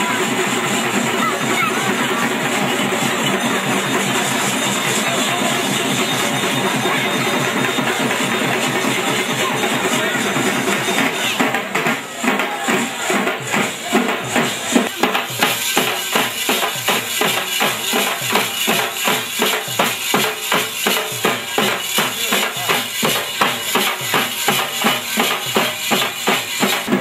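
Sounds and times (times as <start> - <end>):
drums beaten with sticks: 0.0 - 27.0
metal hand percussion jingling: 0.4 - 11.6, 14.4 - 27.0.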